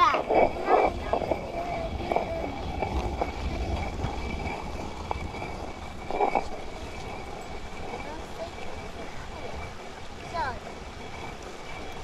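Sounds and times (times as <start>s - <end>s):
stone quern grinding rumble: 0.0s - 12.0s.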